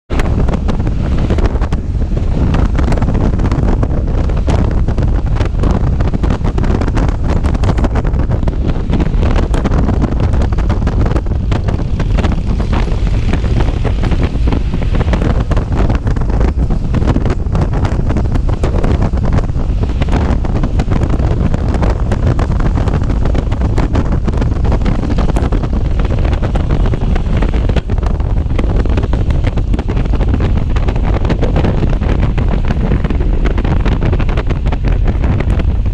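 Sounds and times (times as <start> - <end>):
motorcycle engine and road rumble: 0.0 - 35.9
wind buffeting microphone: 0.1 - 35.9.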